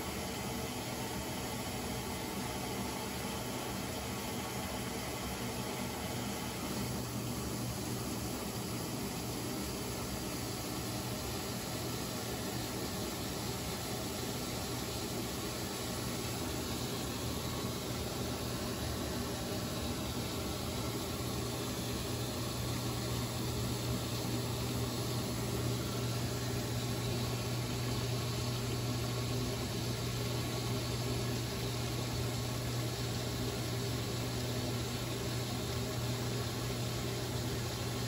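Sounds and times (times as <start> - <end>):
washing machine hum: 0.0 - 38.0.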